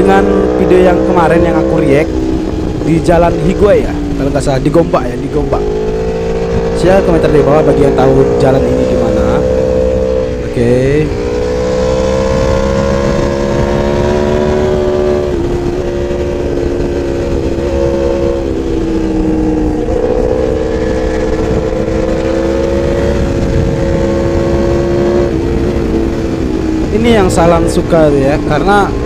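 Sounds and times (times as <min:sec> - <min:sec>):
motorcycle engine at high revs: 0:00.0 - 0:29.0
wind noise: 0:00.0 - 0:29.0.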